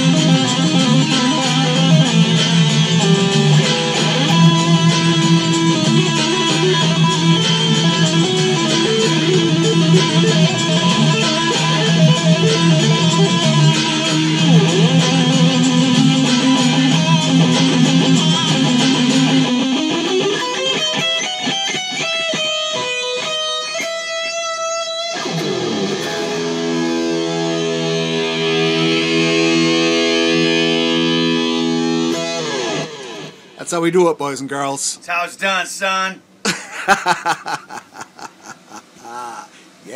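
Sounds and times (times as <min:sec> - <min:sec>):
electric guitar solo: 0:00.0 - 0:33.6.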